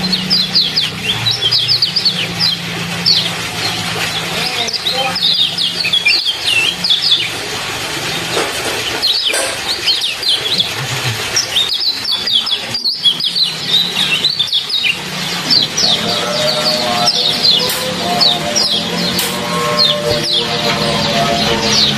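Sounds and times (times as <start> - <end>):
songbird chirps: 0.0 - 7.4, 8.3 - 21.9
trickle of running water: 0.0 - 21.9.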